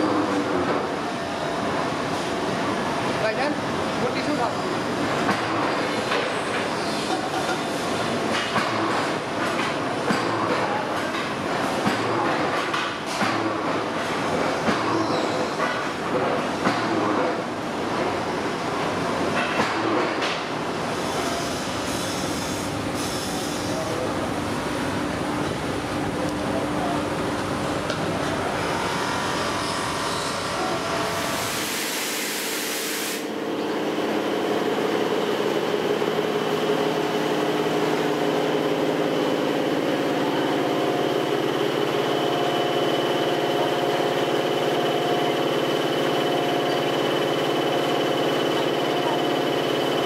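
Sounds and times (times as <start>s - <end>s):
factory machinery drone: 0.0s - 50.0s.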